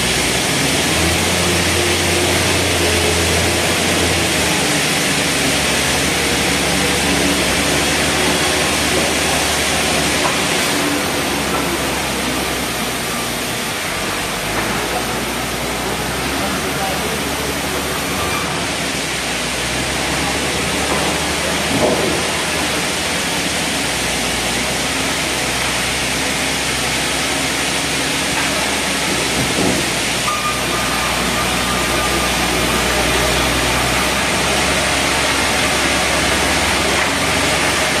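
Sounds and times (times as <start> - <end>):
sawmill machinery running: 0.0 - 38.0.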